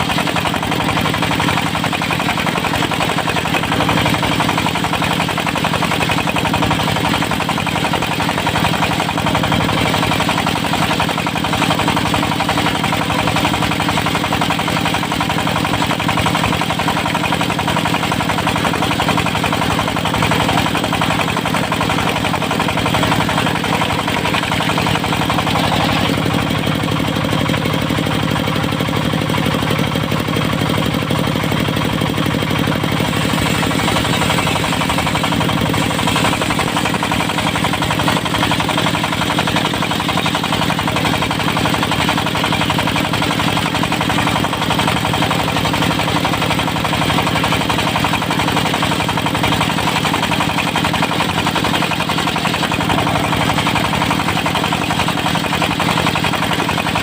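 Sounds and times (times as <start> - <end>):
sawmill running with knocking beat: 0.0 - 57.0.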